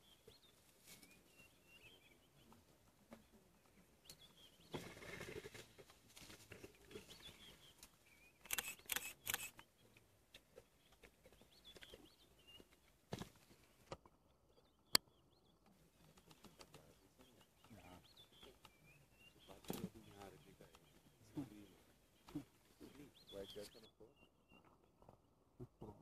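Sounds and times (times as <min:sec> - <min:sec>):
faint bird chirps: 0:00.0 - 0:12.8, 0:14.4 - 0:24.8.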